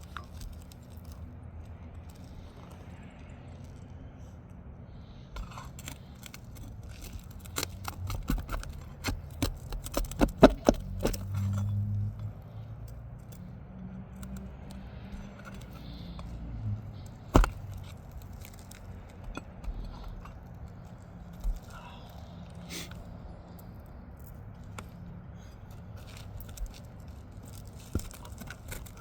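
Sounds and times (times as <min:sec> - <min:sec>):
pry bar clicking and scraping nails: 0:00.0 - 0:03.0, 0:05.2 - 0:29.0.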